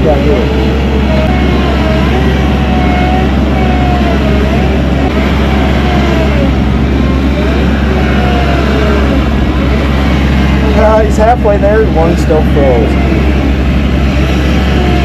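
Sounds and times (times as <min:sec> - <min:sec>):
diesel engine under load: 0:00.0 - 0:15.0
wavering whine: 0:00.0 - 0:15.0.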